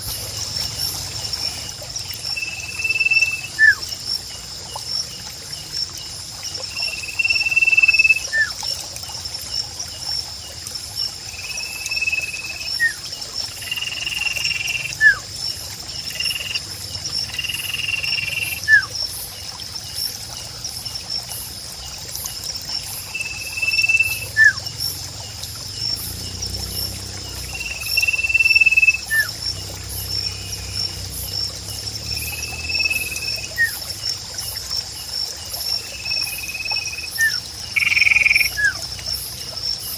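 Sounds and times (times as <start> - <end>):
pulsing insect drone: 0.0 - 39.9.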